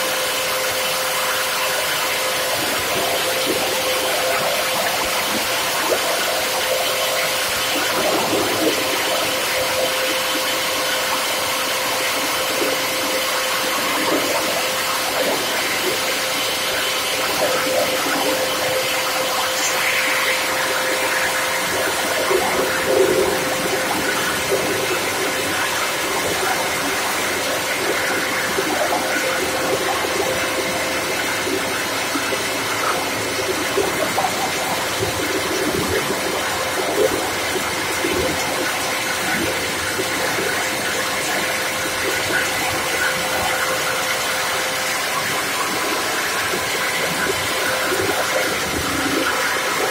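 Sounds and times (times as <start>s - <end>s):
plastic grinder humming: 0.0s - 49.9s.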